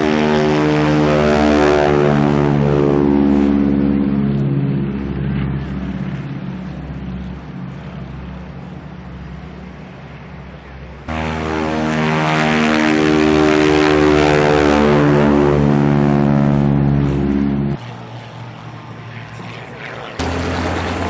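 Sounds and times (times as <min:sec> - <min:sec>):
propeller airplane engine: 0:00.0 - 0:21.0.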